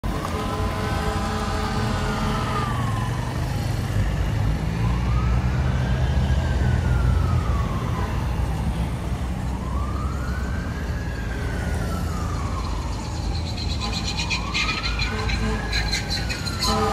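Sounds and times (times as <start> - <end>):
fire engine siren wailing: 0.0 - 16.9
passing traffic rumble: 0.0 - 16.9.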